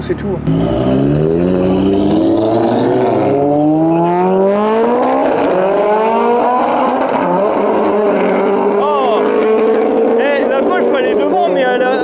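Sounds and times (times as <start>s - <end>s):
car engine accelerating hard: 0.4s - 12.0s.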